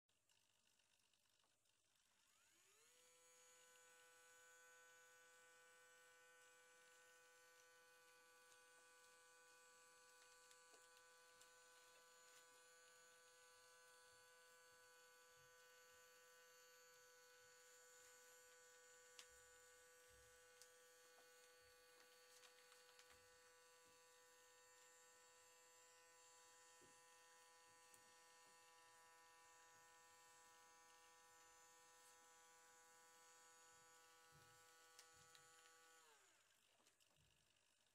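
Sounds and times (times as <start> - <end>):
small electric motor whine: 2.0 - 37.0.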